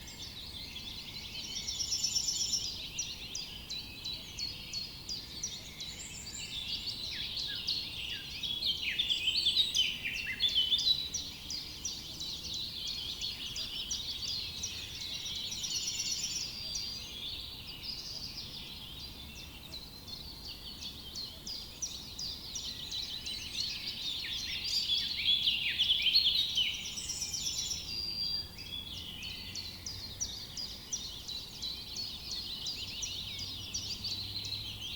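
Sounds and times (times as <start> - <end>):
birds chirping and singing: 0.0 - 34.9.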